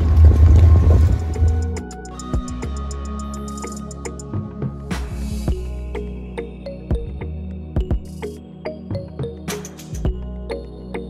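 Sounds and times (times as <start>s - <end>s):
bass and keyboard notes: 0.0s - 11.0s.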